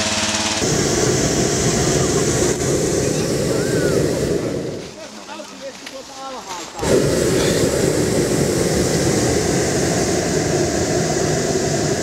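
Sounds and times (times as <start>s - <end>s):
propane burner roaring: 0.0s - 5.1s, 6.7s - 12.0s.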